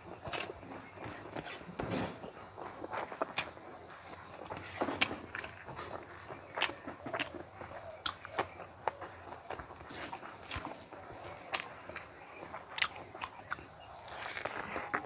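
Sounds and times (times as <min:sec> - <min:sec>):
person chewing rice: 0:00.0 - 0:15.0.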